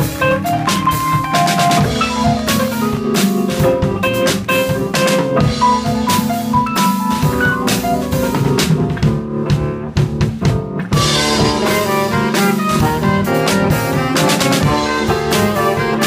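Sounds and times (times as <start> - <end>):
drum kit with snare and cymbals: 0.0 - 16.0
upright double bass: 0.0 - 16.0.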